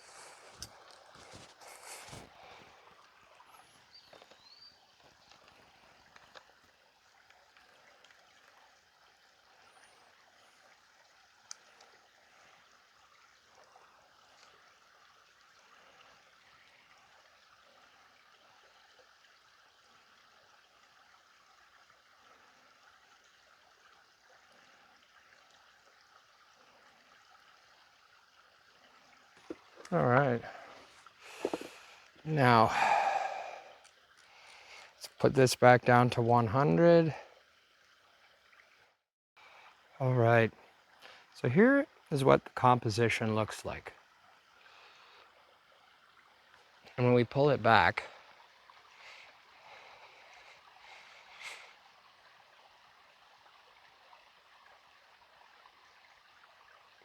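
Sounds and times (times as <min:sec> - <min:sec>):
stream trickling down waterfall steps: 0:00.0 - 0:57.0.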